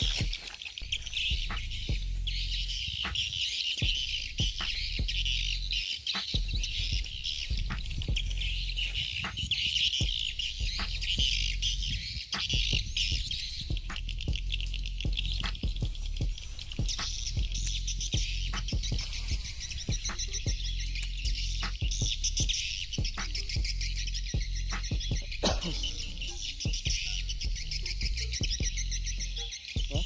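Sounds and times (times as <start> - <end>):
birds chirping and calling: 0.0 - 30.0
high-pitched outdoor chorus: 0.0 - 30.0.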